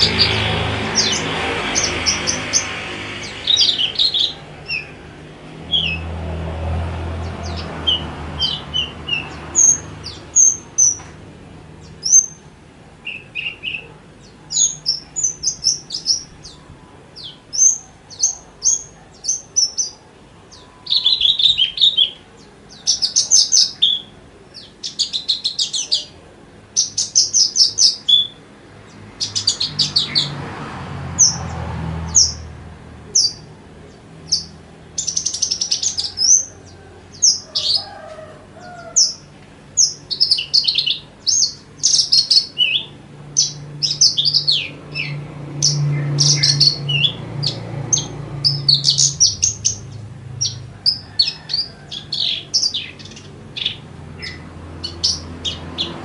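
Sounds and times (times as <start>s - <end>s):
lark singing chirps and trills: 0.0s - 6.1s, 7.2s - 11.2s, 11.8s - 30.4s, 31.2s - 32.5s, 33.1s - 37.9s, 38.6s - 56.0s.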